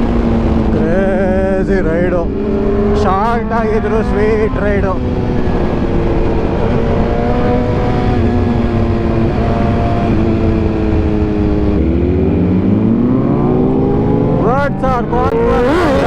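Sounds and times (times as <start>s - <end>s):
motorcycle engine revving: 0.0s - 16.0s
wind rush on microphone: 0.0s - 16.0s.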